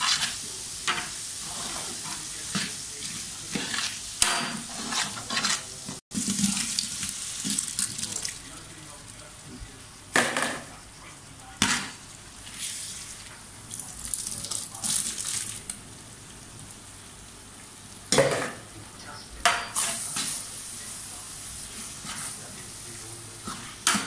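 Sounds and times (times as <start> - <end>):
hissing sizzling stirring: 0.0 - 24.0.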